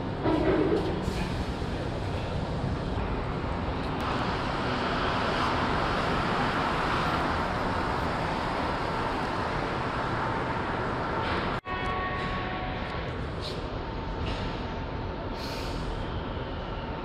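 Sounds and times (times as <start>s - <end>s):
train rumbling hum in station: 0.0s - 17.0s.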